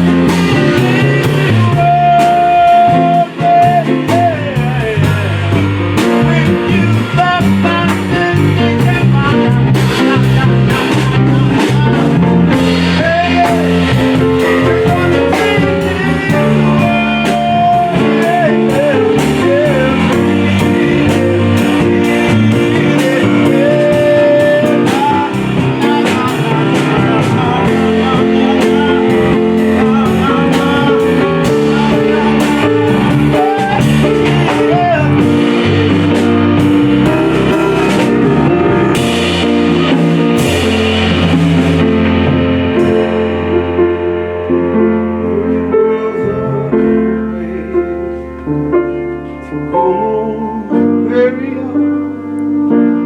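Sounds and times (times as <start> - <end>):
electric guitar melody with bent notes: 0.0 - 51.5
blues band playing: 0.0 - 53.0.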